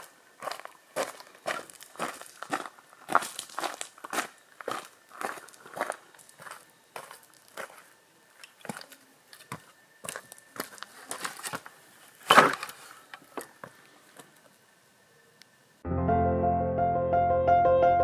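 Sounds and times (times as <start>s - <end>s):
crunching and rustling: 0.0s - 14.6s.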